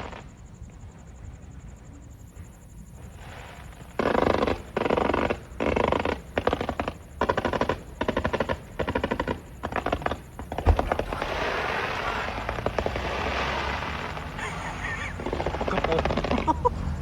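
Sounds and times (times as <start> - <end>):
fireworks crackling: 0.0 - 0.4, 2.9 - 17.0.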